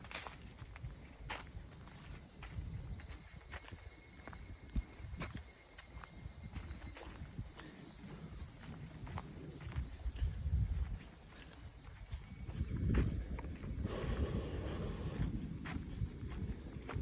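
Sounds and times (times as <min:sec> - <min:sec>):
footsteps: 0:00.0 - 0:17.0
high-pitched insect drone: 0:00.0 - 0:17.0.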